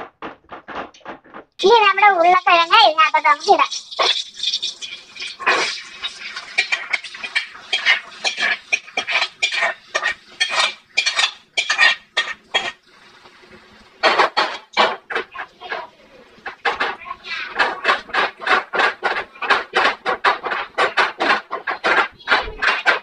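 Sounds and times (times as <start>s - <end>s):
ladle clattering against metal pots: 0.0s - 12.8s, 14.0s - 23.0s.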